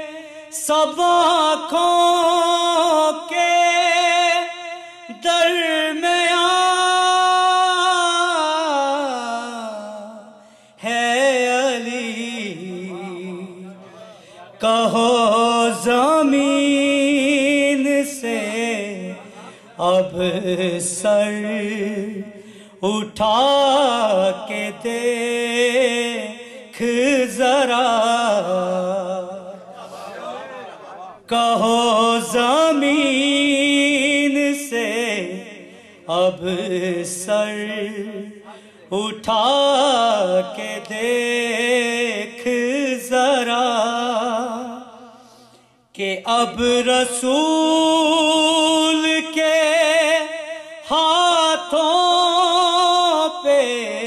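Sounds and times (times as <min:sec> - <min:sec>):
man singing unaccompanied: 0:00.0 - 0:29.6, 0:31.2 - 0:45.0, 0:46.0 - 0:54.0.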